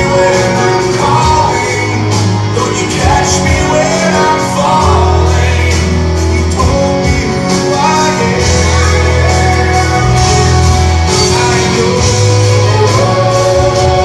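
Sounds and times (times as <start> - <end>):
pop-rock song with vocals: 0.0 - 14.0.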